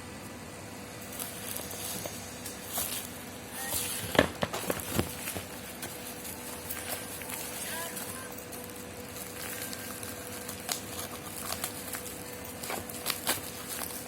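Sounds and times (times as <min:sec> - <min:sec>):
package rustling: 0:01.0 - 0:14.0.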